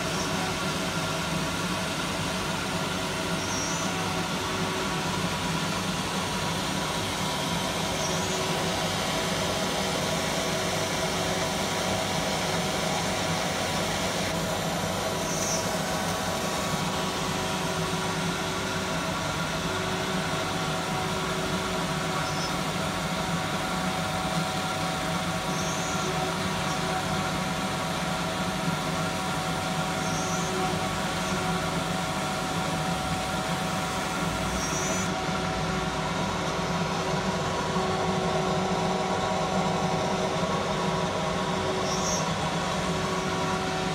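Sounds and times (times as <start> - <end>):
laser marking machine humming: 0.0 - 43.9.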